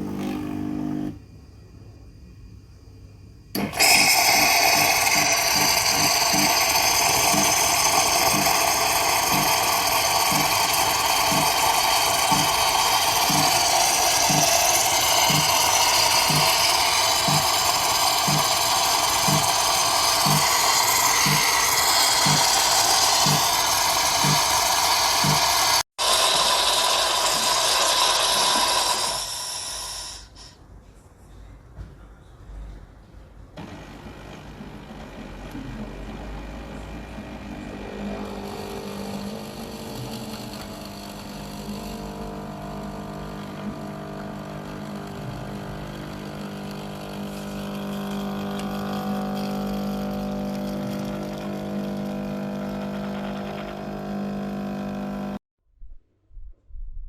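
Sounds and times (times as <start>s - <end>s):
espresso machine hissing: 0.0s - 1.2s, 3.6s - 30.6s, 33.6s - 55.4s.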